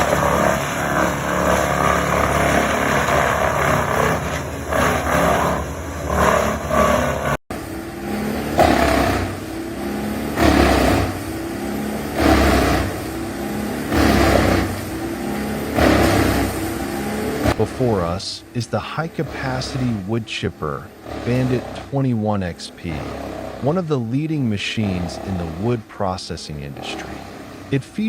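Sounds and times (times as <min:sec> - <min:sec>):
wood chipper running: 0:00.0 - 0:28.0.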